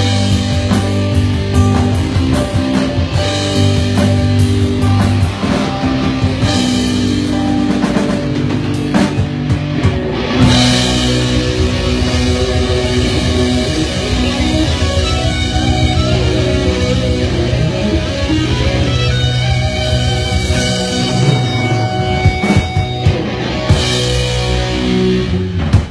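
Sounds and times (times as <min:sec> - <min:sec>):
live rock music: 0:00.0 - 0:25.9.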